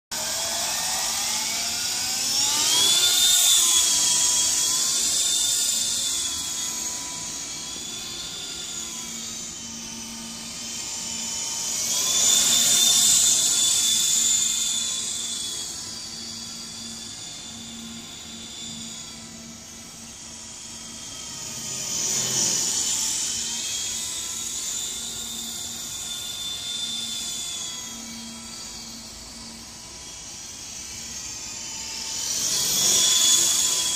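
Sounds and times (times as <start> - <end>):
toy helicopter motor whining: 0.1 - 33.9.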